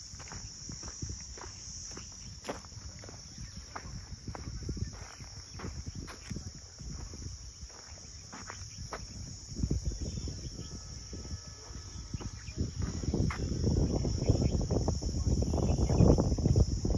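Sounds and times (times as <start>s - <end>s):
insect chirring: 0.0s - 16.9s
wind rumble on microphone: 0.0s - 16.9s.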